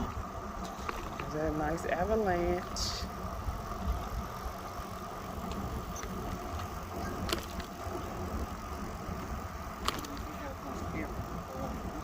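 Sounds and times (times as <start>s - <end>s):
bicycle wind and rolling noise: 0.0s - 12.0s.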